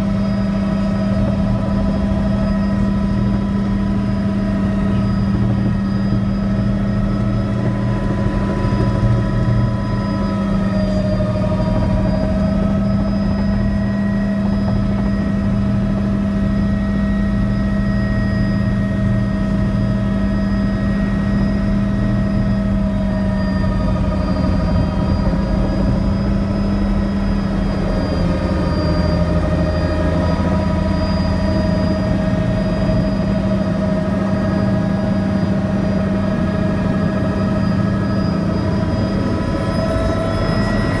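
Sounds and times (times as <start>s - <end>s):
helicopter engine and rotor: 0.0s - 41.0s.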